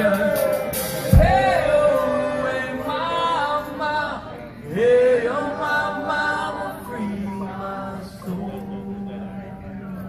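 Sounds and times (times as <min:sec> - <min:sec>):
singers chanting in held notes: 0:00.0 - 0:09.9.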